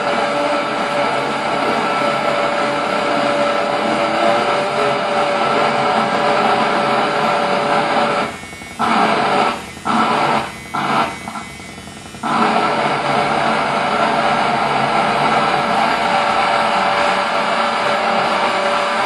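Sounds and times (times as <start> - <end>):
noisy electric razor drone: 0.0 - 19.0.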